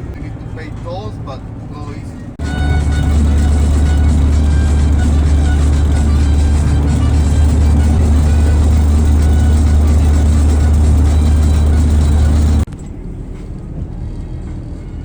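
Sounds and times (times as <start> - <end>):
car driving on highway: 0.0 - 15.0
road noise: 0.0 - 15.0.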